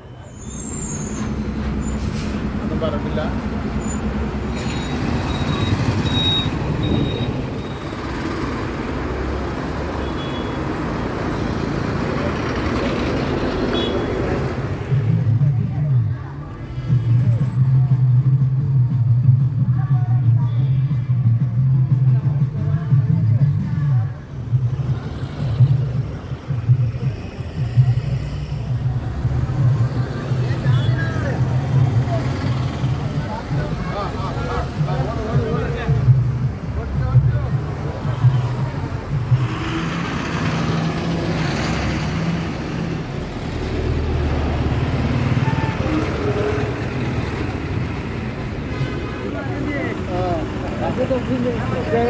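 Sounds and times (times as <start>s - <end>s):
vehicle engine and road rumble: 0.0s - 52.0s.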